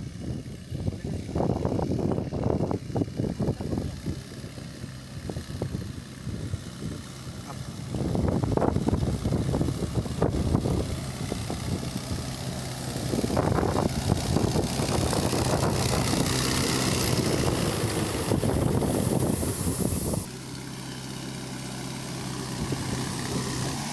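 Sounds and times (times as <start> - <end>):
loud rushing fan noise: 0.0 - 23.9
tractor engine drone: 0.0 - 23.9.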